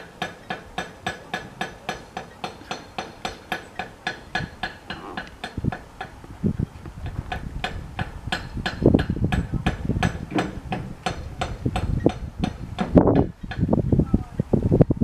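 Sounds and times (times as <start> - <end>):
low rumbles: 0.0 - 15.0.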